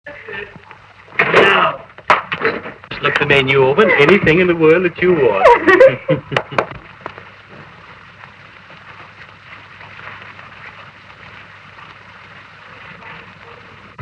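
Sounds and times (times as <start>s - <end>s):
film soundtrack hiss and crackle: 0.0s - 14.0s.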